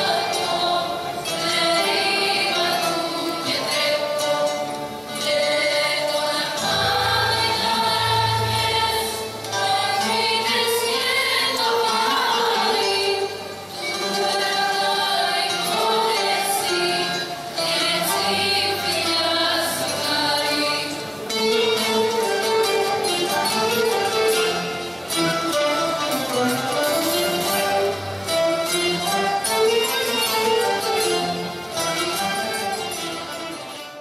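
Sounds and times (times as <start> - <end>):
choir singing: 0.0 - 33.8.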